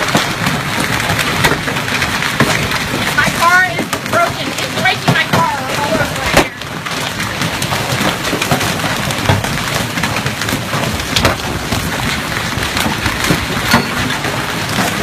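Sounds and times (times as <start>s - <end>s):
hail pattering: 0.0s - 15.0s
loud hail cracks: 0.0s - 15.0s.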